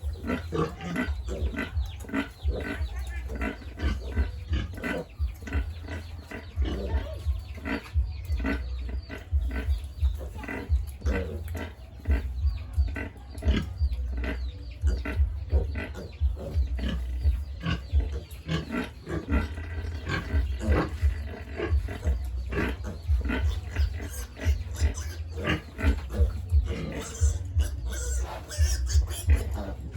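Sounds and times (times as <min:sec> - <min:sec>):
pigs grunting: 0:00.0 - 0:29.9.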